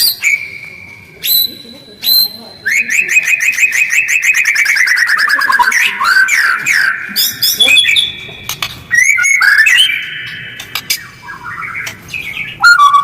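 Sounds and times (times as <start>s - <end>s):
bird singing trills and whistles: 0.0s - 13.0s.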